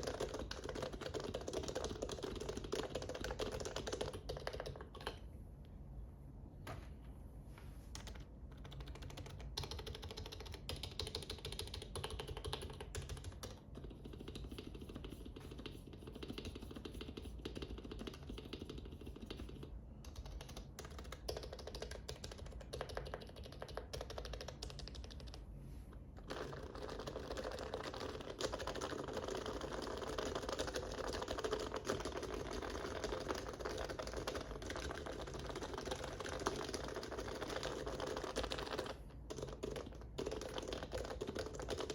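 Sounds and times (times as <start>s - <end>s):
keyboard typing: 0.0s - 5.2s, 7.9s - 25.4s, 26.2s - 41.9s.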